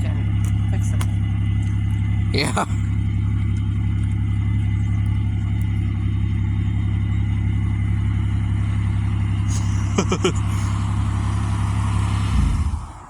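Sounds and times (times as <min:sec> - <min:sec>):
car engine idling at tailpipe: 0:00.0 - 0:13.0.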